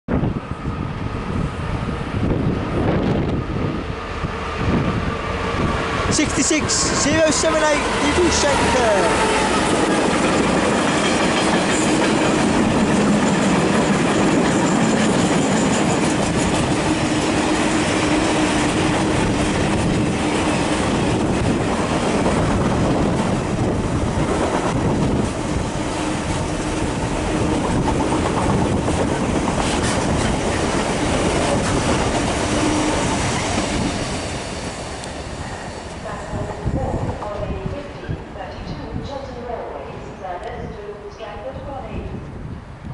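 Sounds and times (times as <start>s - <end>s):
freight train wheels rumbling on rails: 0.1s - 42.9s.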